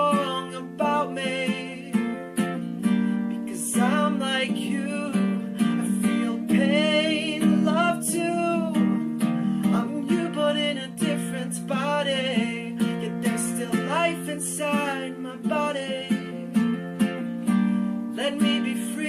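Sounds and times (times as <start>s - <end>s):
person singing: 0.0s - 19.0s
strummed acoustic guitar: 0.0s - 19.0s.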